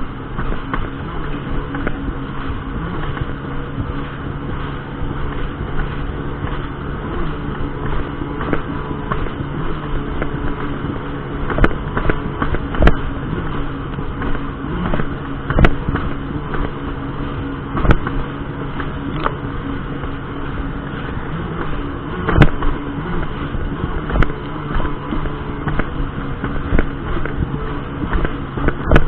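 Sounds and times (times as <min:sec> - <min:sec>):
jet ski engine running: 0:00.0 - 0:29.0
rushing water noise: 0:00.0 - 0:29.0.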